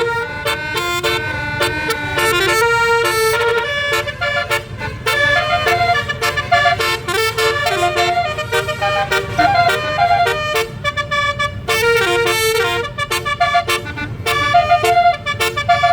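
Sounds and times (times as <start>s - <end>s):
bus air horn melody: 0.0s - 15.9s
low steady rumble: 0.0s - 15.9s.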